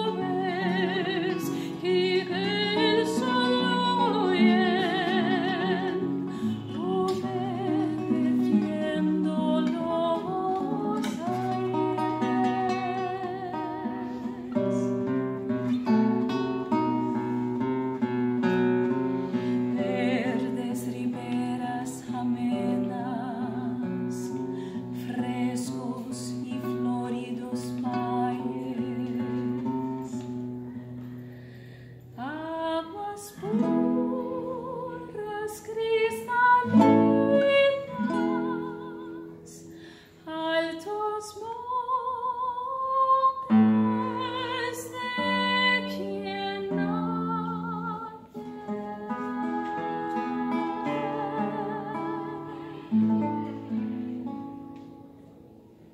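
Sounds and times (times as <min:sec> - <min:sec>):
woman singing with vibrato: 0:00.0 - 0:17.2, 0:19.2 - 0:30.2, 0:32.2 - 0:54.4
classical guitar playing: 0:00.0 - 0:55.9.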